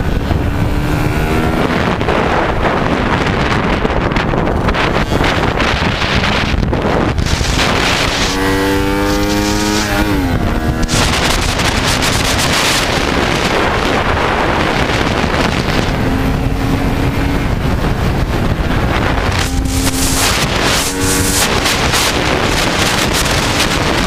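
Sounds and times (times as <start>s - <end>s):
motorcycle engine: 0.0s - 24.0s
wind buffeting microphone: 0.0s - 24.0s.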